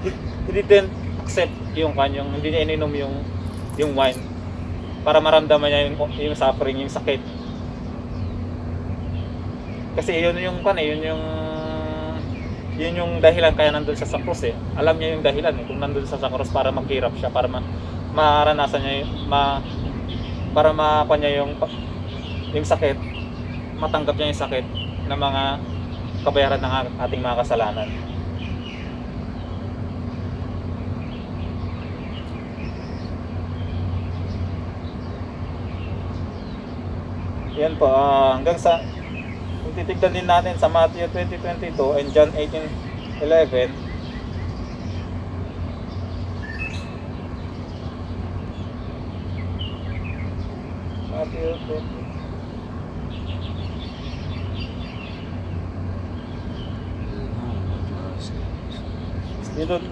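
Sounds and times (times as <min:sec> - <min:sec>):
bird chirps: 0:00.0 - 0:59.9
low mechanical hum: 0:00.0 - 0:59.9
low outdoor rumble: 0:00.0 - 0:59.9.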